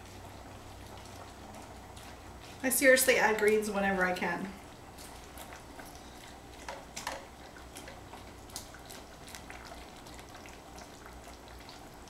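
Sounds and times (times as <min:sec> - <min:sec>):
thick soup being stirred: 0:00.0 - 0:03.7, 0:04.6 - 0:12.0.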